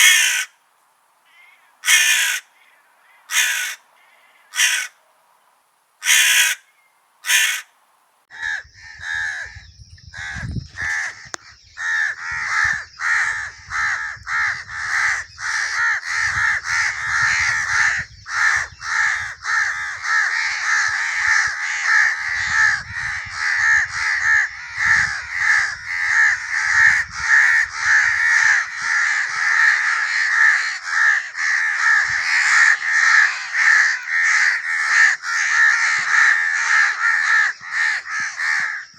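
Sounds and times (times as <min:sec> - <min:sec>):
crows cawing: 0:00.0 - 0:00.6, 0:01.3 - 0:05.0, 0:06.0 - 0:07.7, 0:08.3 - 0:09.6, 0:10.2 - 0:38.9.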